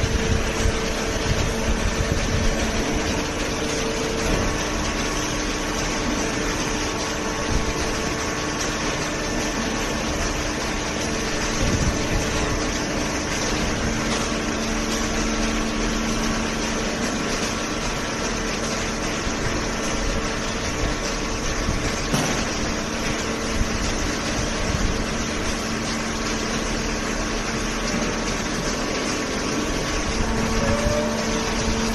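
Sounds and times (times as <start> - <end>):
hydraulic press motor hum: 0.0 - 31.9
lower machine tone: 0.0 - 31.9.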